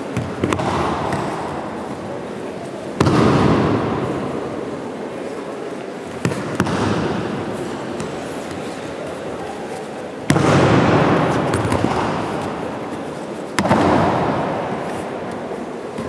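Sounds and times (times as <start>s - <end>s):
low crowd murmur: 0.0s - 16.0s.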